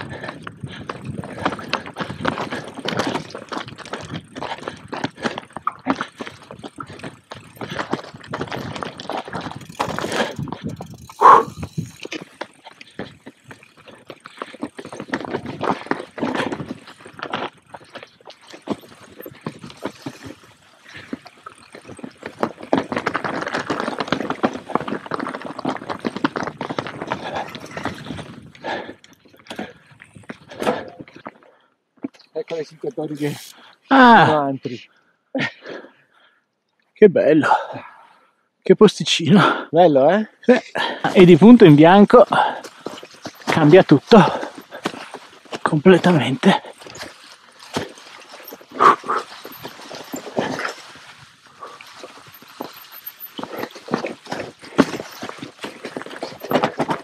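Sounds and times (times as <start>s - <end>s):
mountain bike clattering over rough ground: 0.0s - 37.9s, 38.9s - 57.0s.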